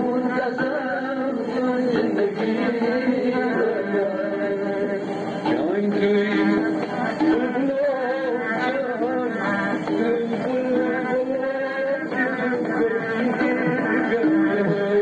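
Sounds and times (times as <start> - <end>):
instrumental accompaniment: 0.0 - 15.0
man singing: 0.0 - 15.0.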